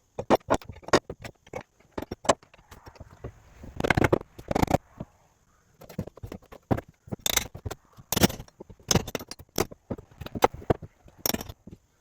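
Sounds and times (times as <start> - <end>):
wood debris knocking and rattling: 0.0 - 4.8, 5.8 - 11.9.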